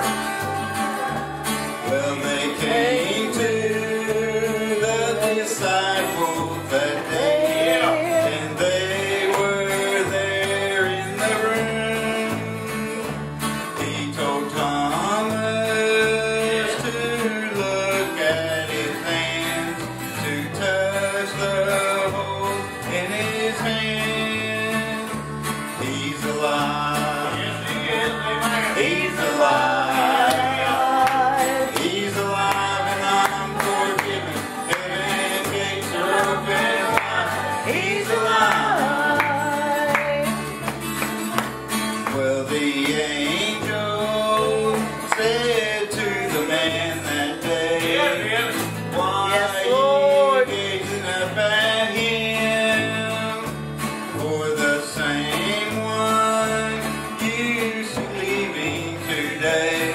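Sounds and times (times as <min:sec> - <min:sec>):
man singing: 0:00.0 - 0:41.0, 0:41.8 - 0:59.9
electric bass line: 0:00.0 - 0:59.9
strummed acoustic guitar: 0:00.0 - 0:59.9.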